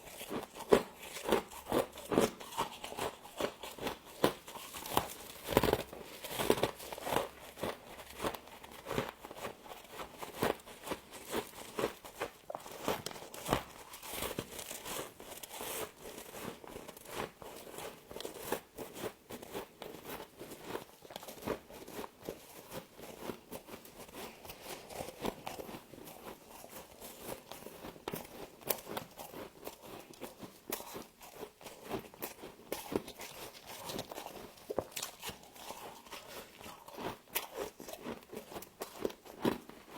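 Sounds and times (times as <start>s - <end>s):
frost crunching when chewed: 0.0s - 39.9s.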